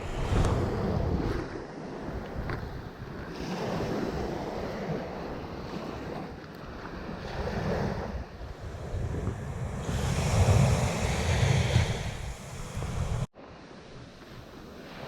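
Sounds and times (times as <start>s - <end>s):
wind buffeting microphone: 0.0s - 13.3s
surf breaking on beach: 0.0s - 13.4s.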